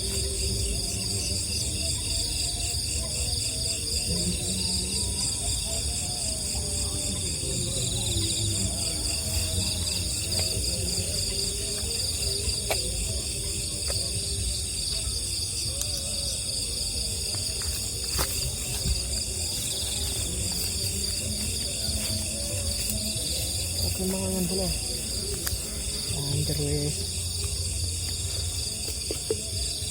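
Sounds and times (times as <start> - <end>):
crickets and insects trilling: 0.0 - 29.9.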